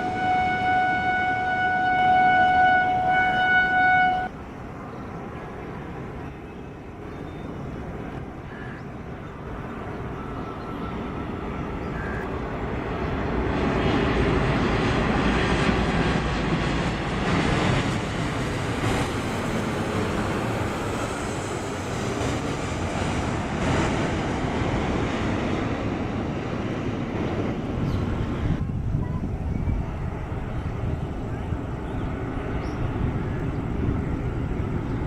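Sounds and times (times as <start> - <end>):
airliner engines running: 0.0 - 35.0.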